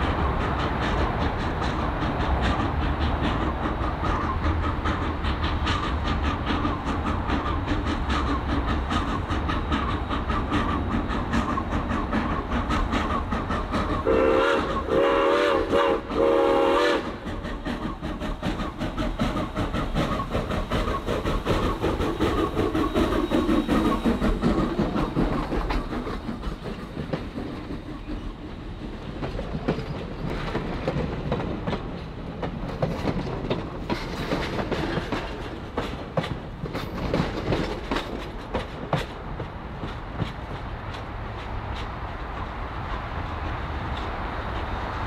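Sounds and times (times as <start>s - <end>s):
steam locomotive passing: 0.0s - 45.0s
wheels clacking over rail joints: 0.0s - 45.0s.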